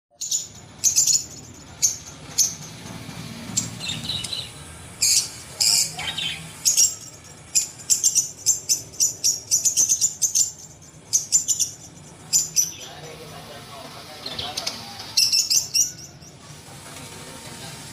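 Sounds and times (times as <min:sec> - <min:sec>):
birds chirping: 0:00.1 - 0:17.9.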